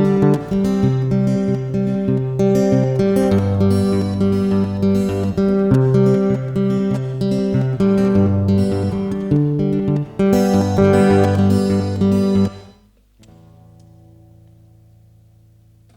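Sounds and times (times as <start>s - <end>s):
acoustic guitar playing: 0.0s - 15.9s.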